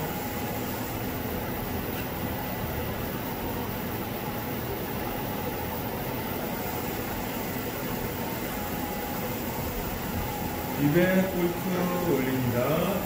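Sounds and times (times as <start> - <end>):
cooling fans whirring: 0.0 - 13.0
faint steady hum: 0.0 - 13.0.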